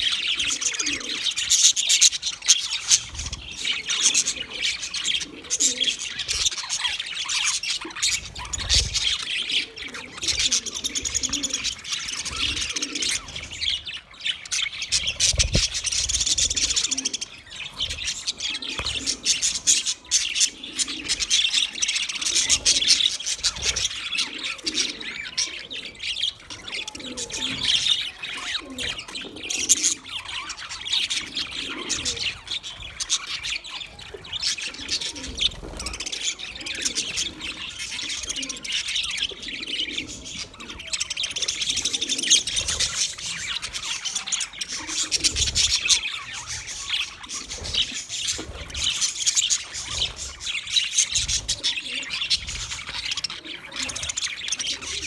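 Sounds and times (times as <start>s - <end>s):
bird squawk: 0.0s - 55.0s
budgerigars chirping: 0.0s - 55.0s.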